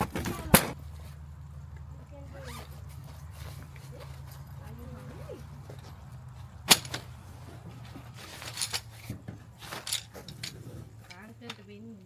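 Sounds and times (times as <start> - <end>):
rustling or clattering: 0.0 - 11.9
steady low hum: 0.0 - 12.0.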